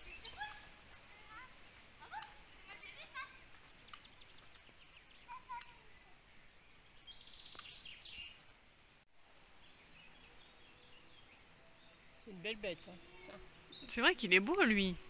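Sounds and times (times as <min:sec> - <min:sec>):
small birds chirping: 0:00.0 - 0:08.6, 0:09.3 - 0:15.0.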